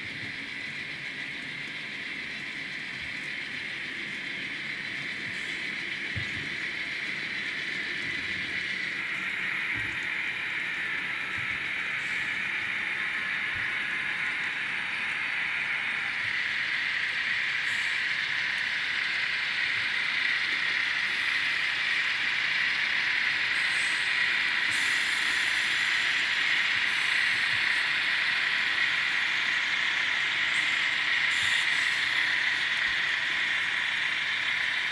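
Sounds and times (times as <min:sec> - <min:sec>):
model train running on track: 0:00.0 - 0:34.9.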